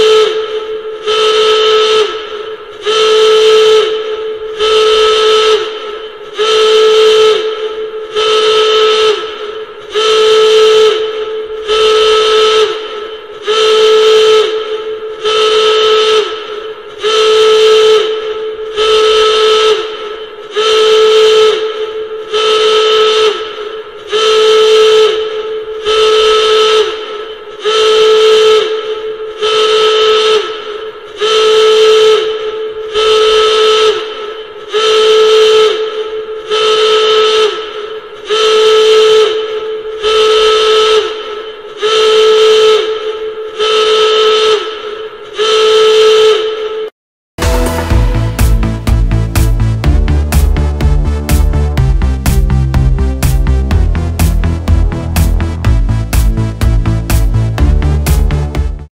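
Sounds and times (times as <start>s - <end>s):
horn-like alarm blasts: 0.0s - 58.9s.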